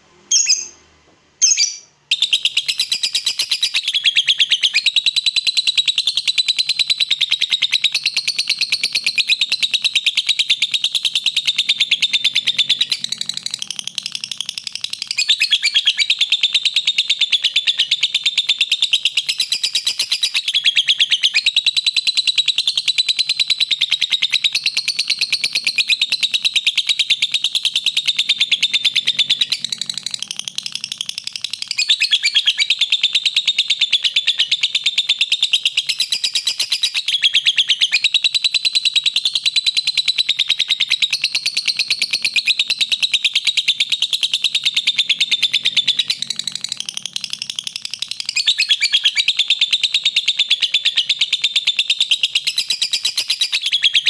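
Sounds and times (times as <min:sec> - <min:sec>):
bird rapid high chirps: 0:00.3 - 0:00.8, 0:01.4 - 0:54.0.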